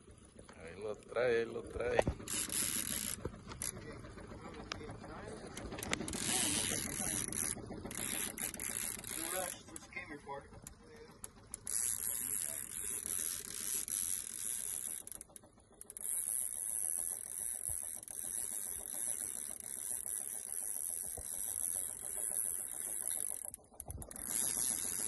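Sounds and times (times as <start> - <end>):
fishing reel cranking and clicking: 0.4 - 25.0.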